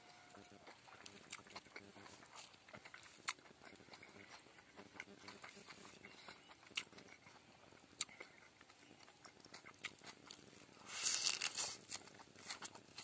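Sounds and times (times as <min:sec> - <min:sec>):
crunching leaf chewing: 0:00.0 - 0:13.0.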